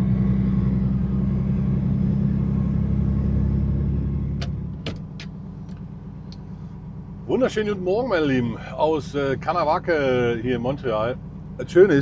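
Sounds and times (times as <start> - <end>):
diesel truck engine: 0.0 - 12.0
road rumble: 0.0 - 12.0.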